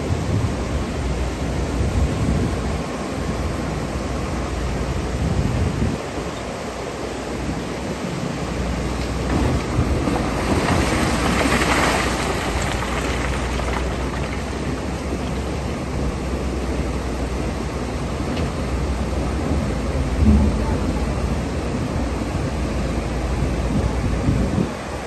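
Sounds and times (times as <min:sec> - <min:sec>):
excavator engine humming: 0:00.0 - 0:25.0
rushing water: 0:00.0 - 0:25.0.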